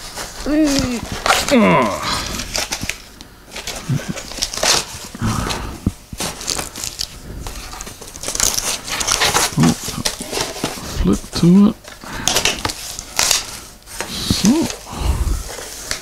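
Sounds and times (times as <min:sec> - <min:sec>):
cardboard crinkling and rustling: 0:00.0 - 0:16.0.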